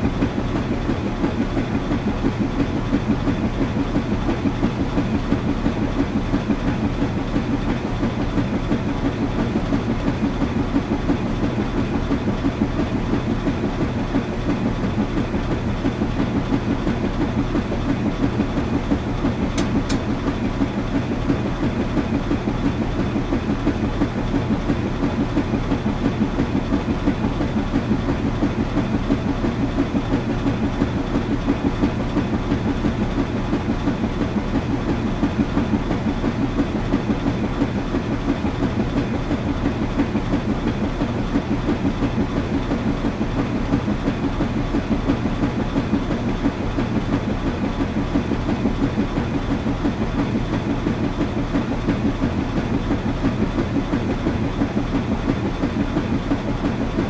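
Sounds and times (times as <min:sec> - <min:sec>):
washing machine churning: 0:00.0 - 0:57.0.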